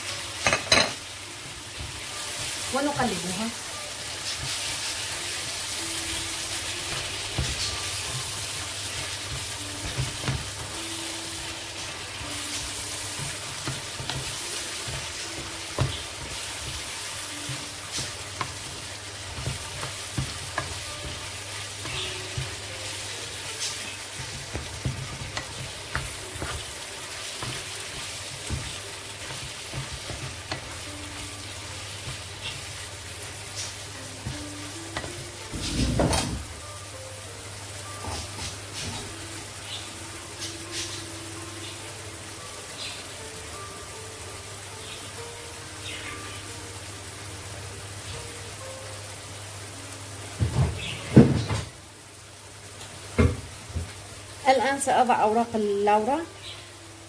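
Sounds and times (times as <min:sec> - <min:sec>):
meat sizzling in a frying pan: 0:00.0 - 0:57.0.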